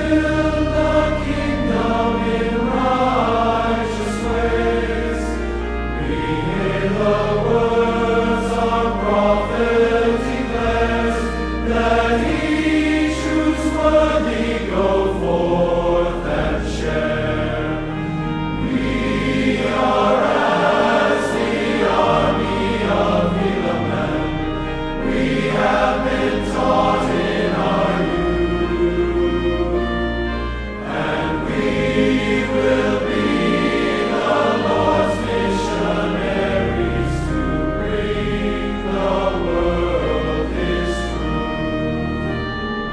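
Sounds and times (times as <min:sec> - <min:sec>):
choir singing a hymn: 0:00.0 - 0:42.9
instrumental accompaniment: 0:00.0 - 0:42.9.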